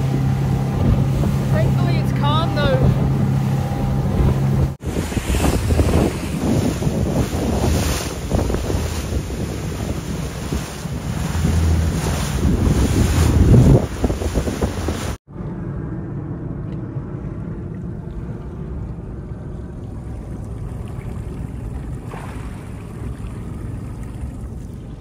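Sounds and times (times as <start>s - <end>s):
boat motor rumble: 0.0s - 25.0s
water rushing past hull: 0.0s - 25.0s
wind buffeting microphone: 0.0s - 25.0s.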